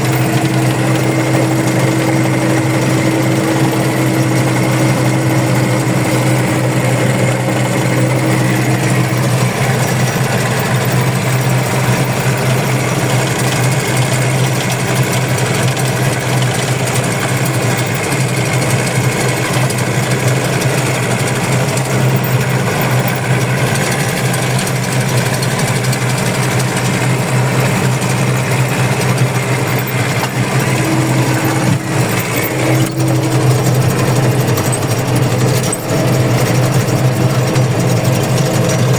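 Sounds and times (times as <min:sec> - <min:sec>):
clattering machinery: 0:00.0 - 0:38.9
machinery engine droning: 0:00.0 - 0:38.9.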